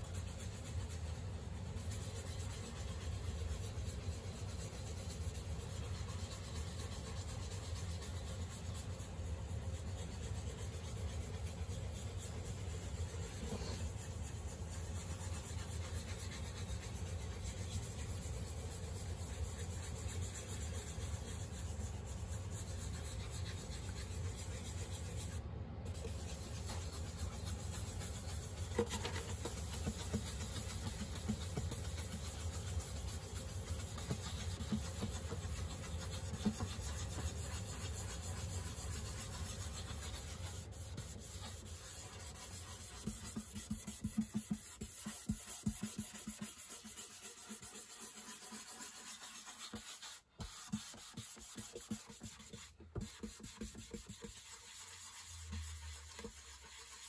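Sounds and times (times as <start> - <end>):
cloth pad scrubbing wood: 0.0 - 57.0.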